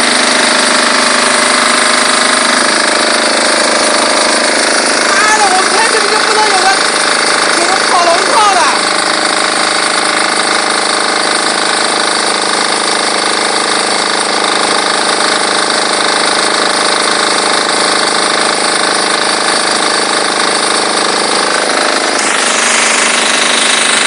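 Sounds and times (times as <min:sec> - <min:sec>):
diesel engine running: 0:00.0 - 0:24.0
pressure washer hissing: 0:00.0 - 0:24.0.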